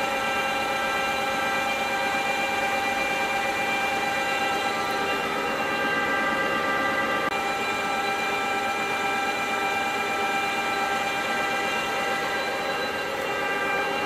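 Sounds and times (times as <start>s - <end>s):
lathe humming with high whine: 0.0s - 14.0s.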